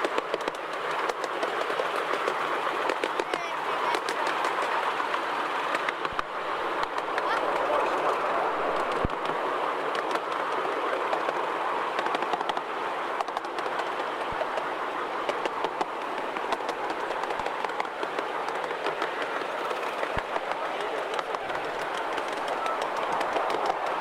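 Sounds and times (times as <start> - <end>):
miniature train wheels on rails: 0.0 - 24.0.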